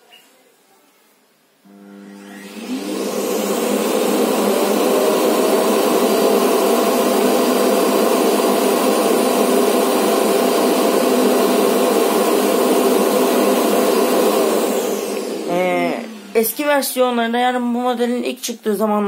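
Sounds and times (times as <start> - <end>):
vacuum motor running: 1.7 - 17.1.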